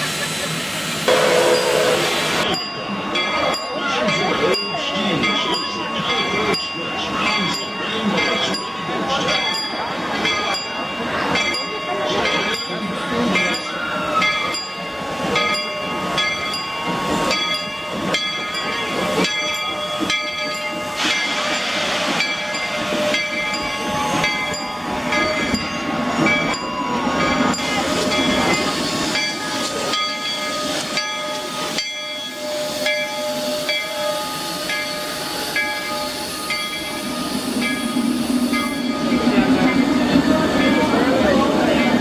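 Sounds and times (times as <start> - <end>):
steam hissing: 0.0 - 3.5, 9.7 - 42.0
steam train rolling past: 0.0 - 42.0.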